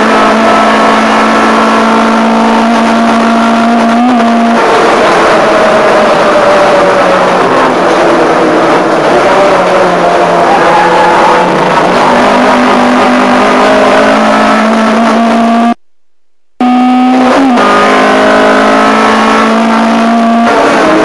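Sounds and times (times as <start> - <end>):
race car engine revving: 0.0 - 15.8, 16.6 - 21.0.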